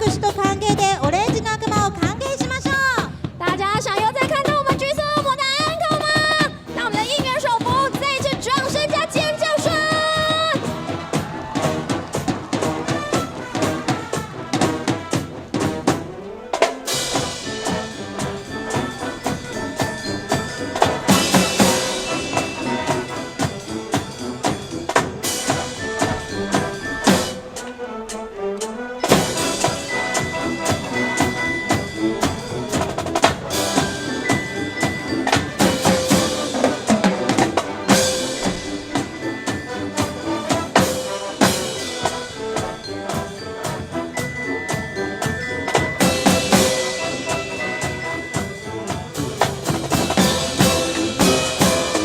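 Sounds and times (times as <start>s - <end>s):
bass and snare drums: 0.0s - 52.0s
marching band playing: 0.0s - 52.0s.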